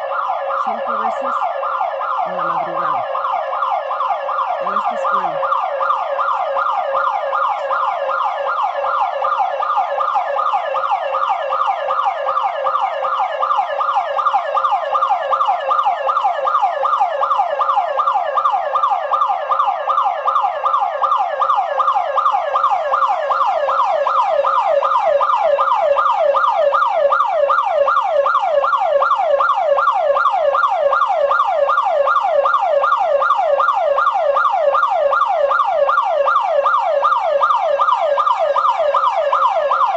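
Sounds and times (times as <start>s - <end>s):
security alarm siren: 0.0s - 39.9s.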